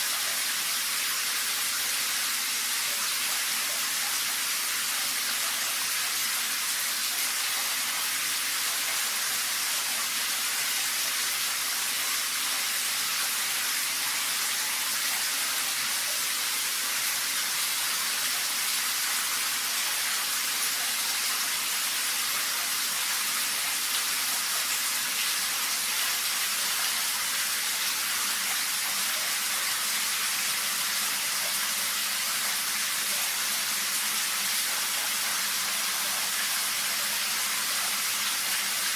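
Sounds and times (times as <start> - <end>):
shower water spraying: 0.0 - 38.9.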